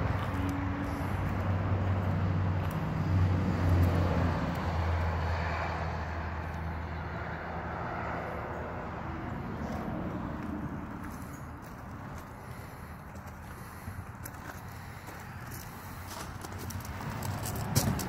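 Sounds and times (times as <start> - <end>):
vehicle engine with road noise: 0.0 - 18.0.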